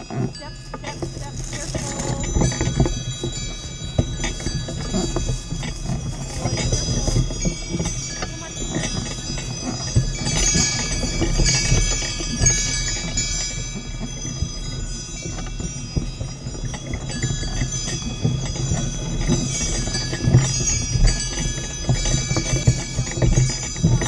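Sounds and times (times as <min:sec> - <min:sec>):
low thuds: 0:00.0 - 0:24.0
sleigh bells jingling: 0:00.0 - 0:24.0.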